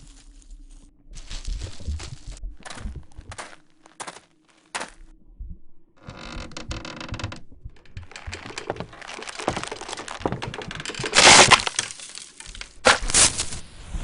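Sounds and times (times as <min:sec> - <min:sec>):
dense cracking and crunching: 0:01.2 - 0:05.0, 0:06.0 - 0:13.7.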